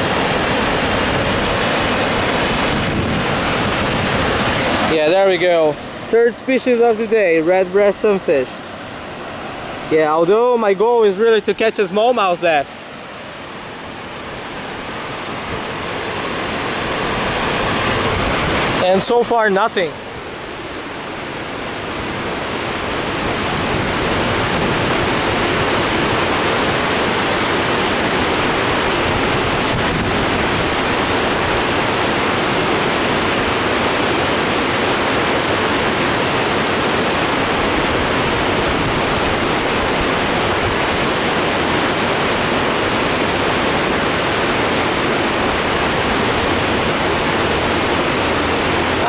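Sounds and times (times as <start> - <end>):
creek rushing through rapids: 0.0 - 49.0.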